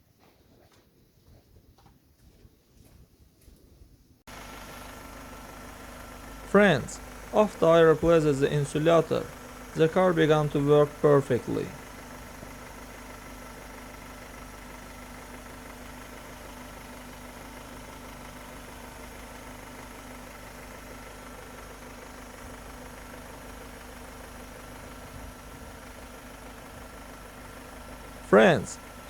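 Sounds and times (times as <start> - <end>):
car engine idling: 4.3 - 29.0.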